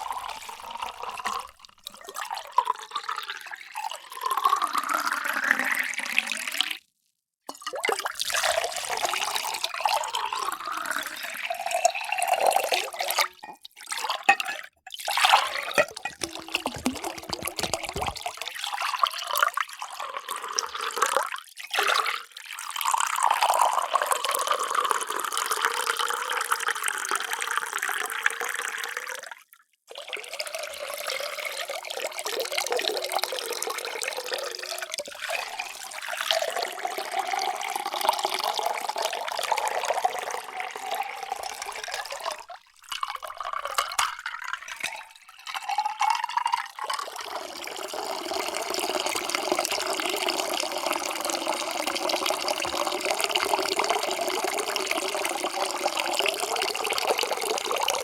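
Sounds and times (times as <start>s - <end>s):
water pouring into a vessel: 0.0s - 6.8s, 7.5s - 58.0s.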